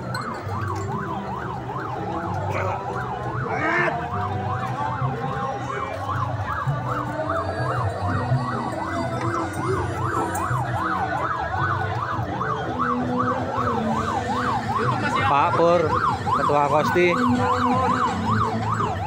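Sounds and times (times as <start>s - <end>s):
electronic siren yelping: 0.2s - 19.0s.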